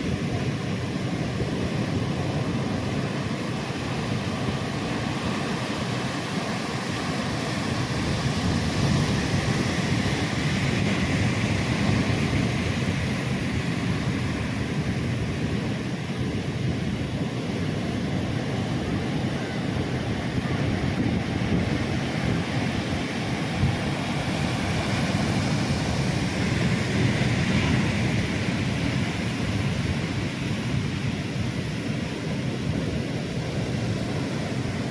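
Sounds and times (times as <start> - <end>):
ocean surf breaking on a beach: 0.0 - 34.9.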